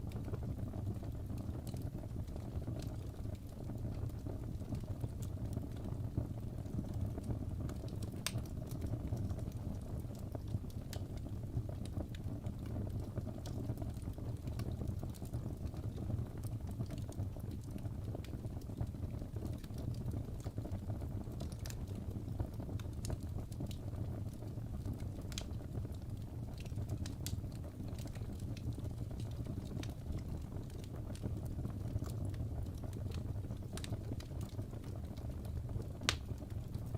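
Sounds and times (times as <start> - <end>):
fire crackling in fireplace: 0.0 - 36.9.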